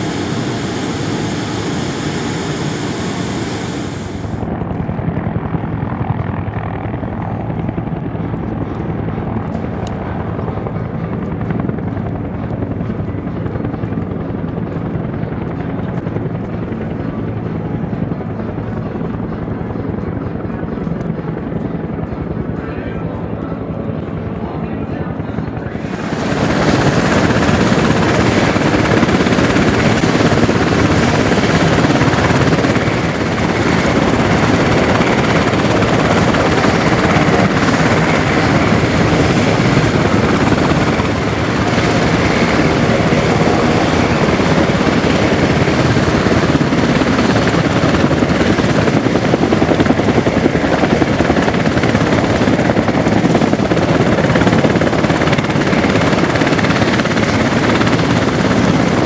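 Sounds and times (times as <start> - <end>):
helicopter rotor chop: 0.0 - 59.0.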